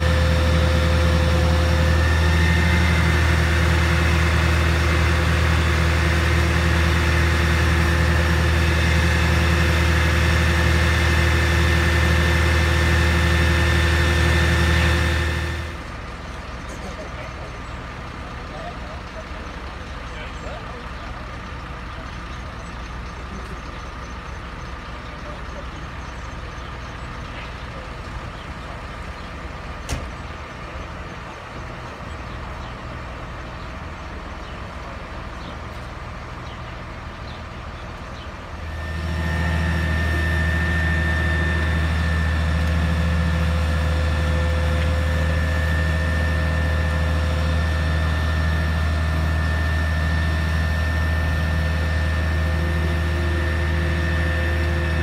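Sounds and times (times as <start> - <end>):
diesel engines idling: 0.0 - 55.0
engine hum with high whine: 0.0 - 55.0.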